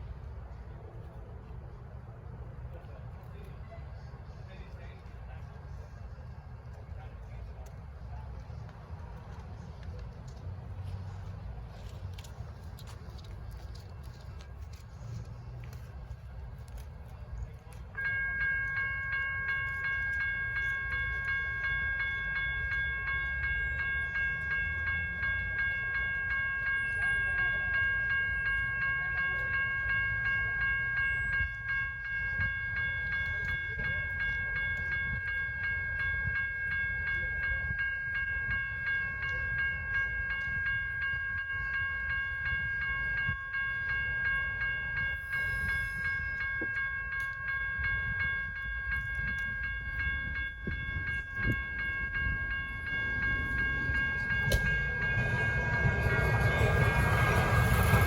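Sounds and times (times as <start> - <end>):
light rail train approaching: 0.0 - 58.0
railroad crossing bells ringing: 0.0 - 58.0.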